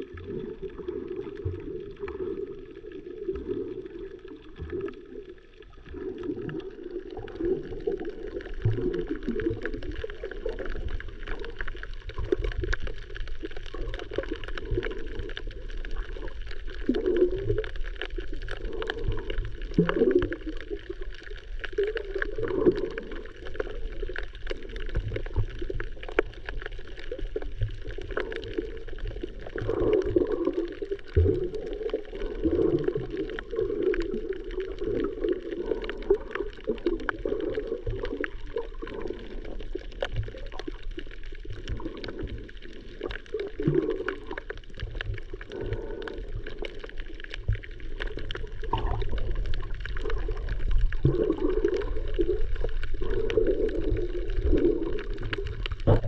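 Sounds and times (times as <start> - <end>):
muffled underwater gurgling: 0.0 - 56.0
crackling clicks: 6.4 - 56.0.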